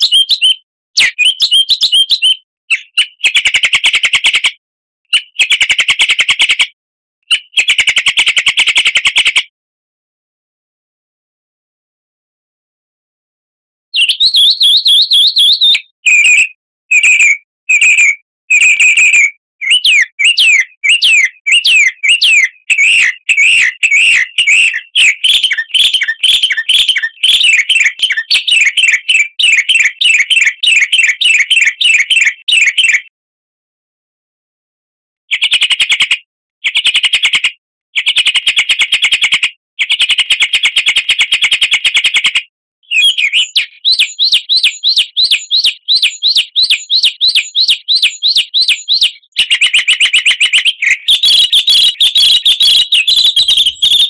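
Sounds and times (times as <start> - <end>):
songbird chirping and trilling: 0.0 - 6.7, 7.3 - 9.5, 14.0 - 33.1, 38.0 - 54.0.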